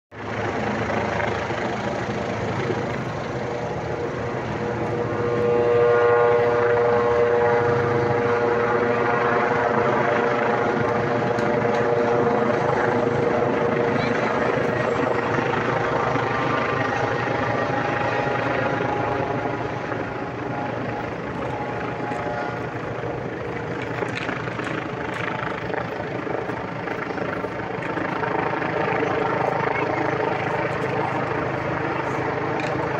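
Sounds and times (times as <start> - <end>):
helicopter rotor drone: 0.1 - 32.9
steady whine: 0.1 - 32.9.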